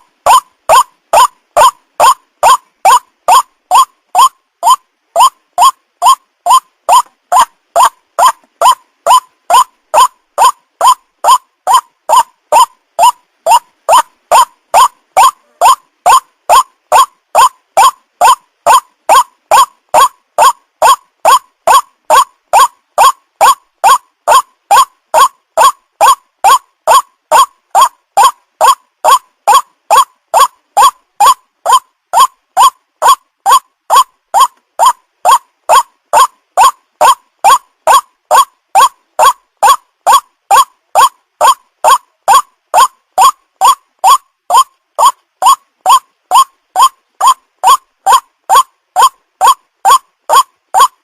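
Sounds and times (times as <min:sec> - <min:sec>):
waterhen calling: 0:00.0 - 0:50.9.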